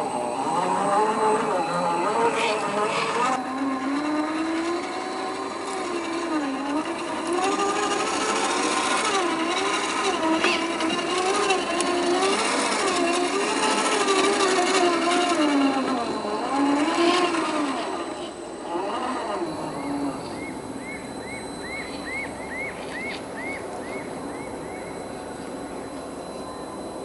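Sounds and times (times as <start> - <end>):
toy car electric motor whining: 0.0 - 25.4.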